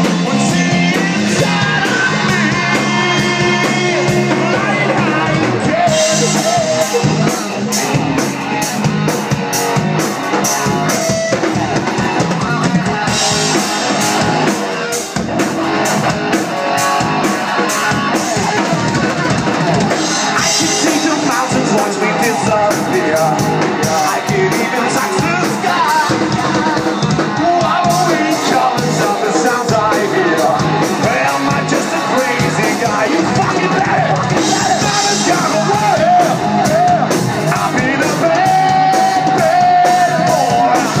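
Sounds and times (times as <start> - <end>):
person singing and shouting: 0.0 - 9.2, 16.7 - 41.0
bass guitar: 0.0 - 41.0
distorted electric guitar: 0.0 - 41.0
drum kit: 0.0 - 41.0.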